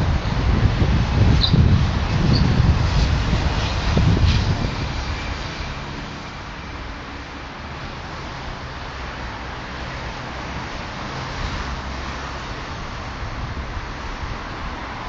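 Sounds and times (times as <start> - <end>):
street traffic rumble and hiss: 0.0 - 15.0.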